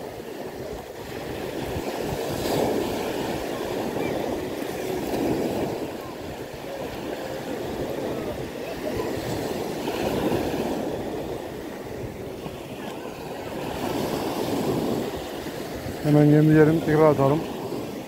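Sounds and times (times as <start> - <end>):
waves washing on beach: 0.0 - 18.0.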